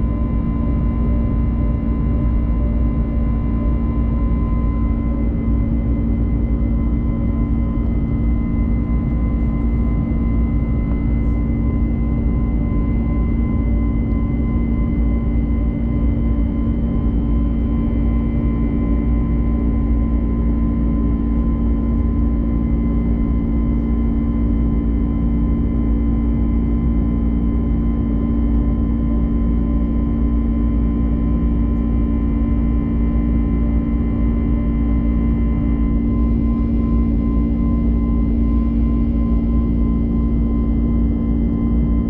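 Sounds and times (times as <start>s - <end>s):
jet airliner cabin drone: 0.0s - 42.0s.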